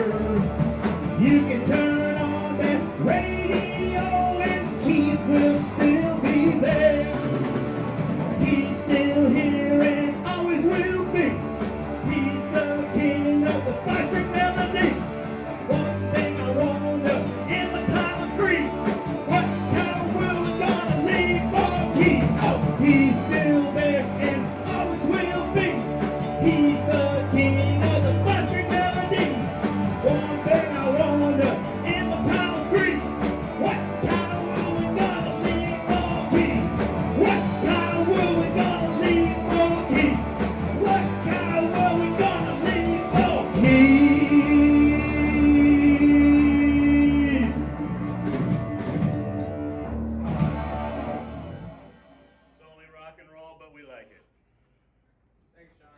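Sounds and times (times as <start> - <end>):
instrumental rock and roll band: 0.0 - 52.8.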